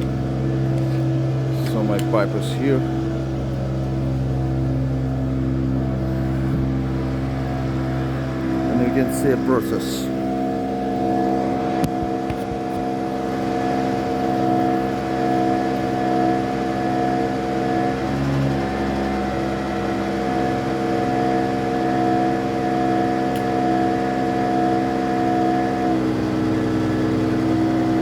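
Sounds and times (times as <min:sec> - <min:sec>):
vacuum pump running: 0:00.0 - 0:28.0.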